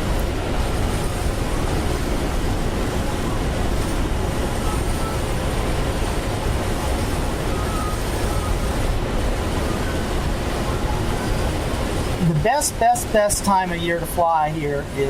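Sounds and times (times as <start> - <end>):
rushing airflow in glider cockpit: 0.0 - 15.0.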